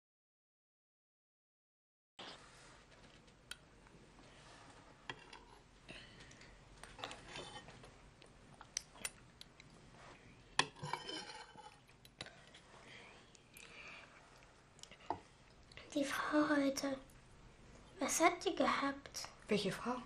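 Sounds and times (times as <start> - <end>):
low room hiss: 2.2 - 20.0.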